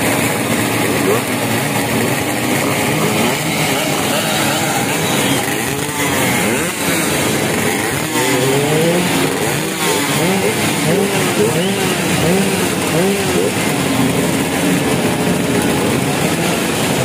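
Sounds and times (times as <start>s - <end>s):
motorcycles revving: 0.0s - 17.0s.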